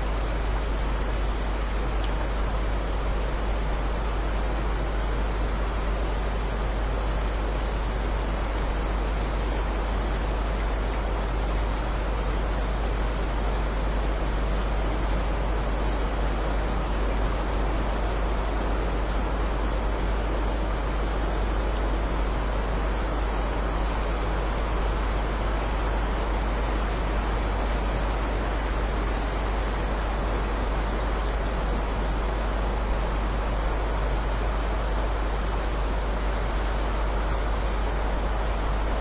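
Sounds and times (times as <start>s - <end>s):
heavy rain hiss: 0.0s - 39.0s.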